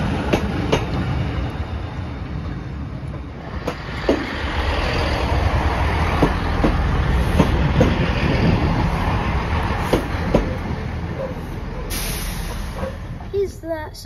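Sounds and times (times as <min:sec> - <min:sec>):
train passing with rumble: 0:00.0 - 0:14.0.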